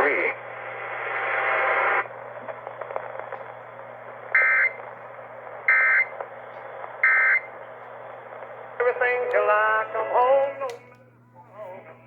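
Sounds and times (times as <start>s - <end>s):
radio crackles: 0.0s - 12.0s
radio hiss: 0.0s - 12.0s.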